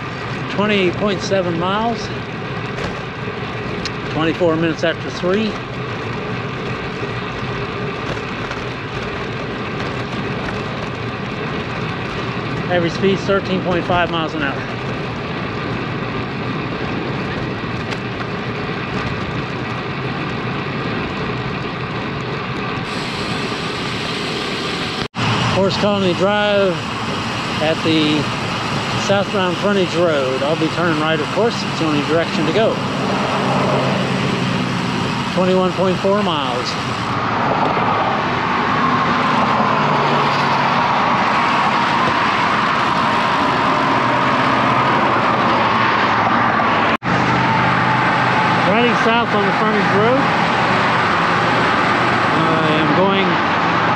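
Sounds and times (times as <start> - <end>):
bicycle tyres rolling on asphalt: 0.0 - 53.9
highway traffic passing: 0.0 - 53.9.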